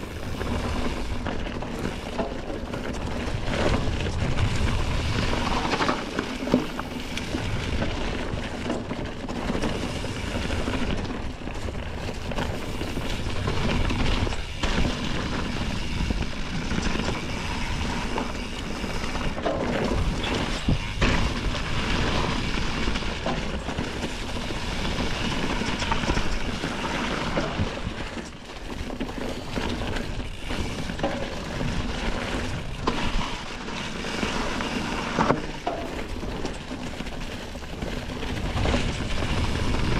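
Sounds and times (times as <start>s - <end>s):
bike knocks and rattles: 0.0s - 39.9s
bike tyres rolling over leaves: 0.0s - 39.9s
wind noise on microphone: 0.0s - 39.9s.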